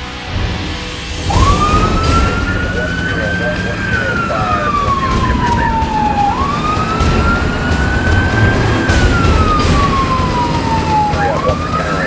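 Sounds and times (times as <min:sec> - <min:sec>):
engine and road rumble: 0:00.0 - 0:12.0
emergency siren wailing: 0:01.1 - 0:12.0.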